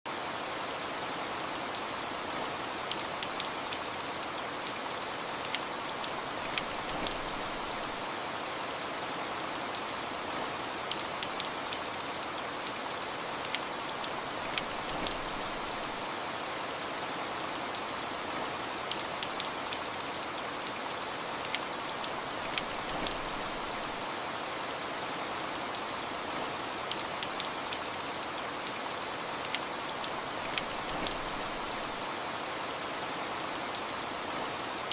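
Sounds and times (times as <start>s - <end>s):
steady rain falling: 0.1s - 34.9s
raindrops ticking on a surface: 1.6s - 8.7s, 9.6s - 16.7s, 17.6s - 24.7s, 25.6s - 34.9s.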